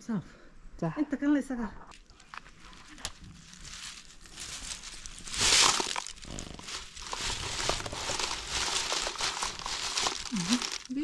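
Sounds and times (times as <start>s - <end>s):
material rustling and crinkling: 1.9s - 11.0s
small crackles and clicks: 1.9s - 11.0s.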